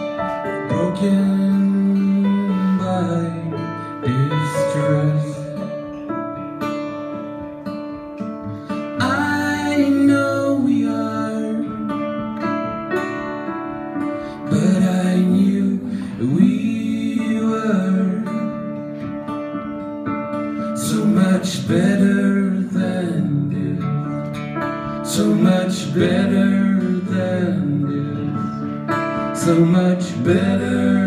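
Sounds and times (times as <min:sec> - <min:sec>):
acoustic guitar: 0:00.0 - 0:31.0
piano keyboard: 0:00.0 - 0:31.0.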